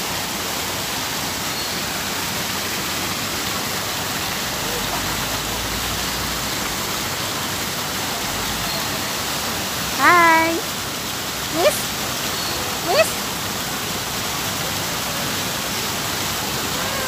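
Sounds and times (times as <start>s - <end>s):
fountain jets splashing into pool: 0.0s - 17.0s.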